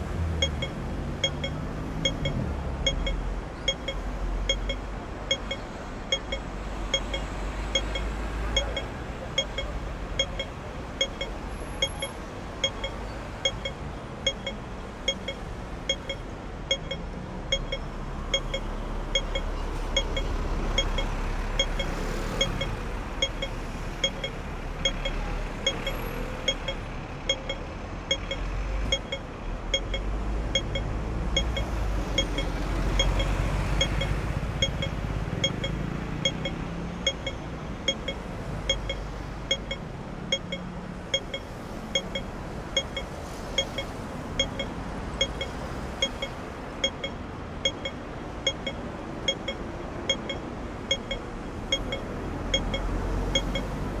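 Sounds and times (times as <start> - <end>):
street traffic rumble: 0.0 - 54.0
crossing signal beeping: 0.2 - 54.0.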